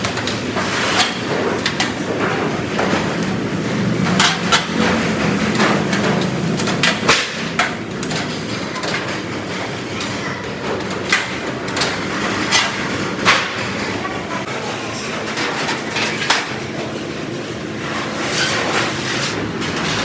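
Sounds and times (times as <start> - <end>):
factory background din: 0.0 - 20.0.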